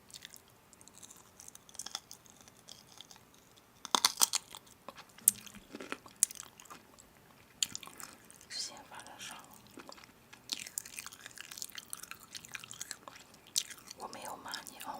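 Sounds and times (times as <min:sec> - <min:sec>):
crisp crunching: 0:00.1 - 0:08.4, 0:09.3 - 0:14.9.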